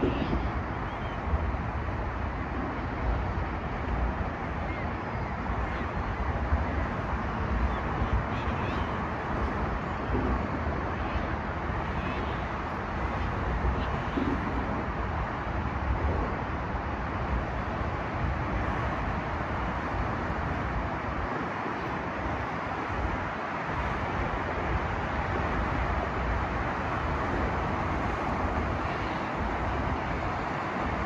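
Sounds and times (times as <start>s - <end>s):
outdoor rumble: 0.0s - 31.0s
wind gusting on microphone: 0.0s - 31.0s.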